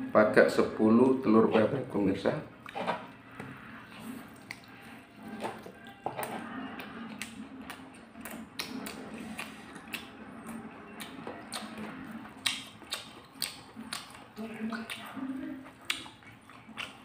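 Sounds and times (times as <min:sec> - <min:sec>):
mouths chewing wetly: 0:02.6 - 0:17.0.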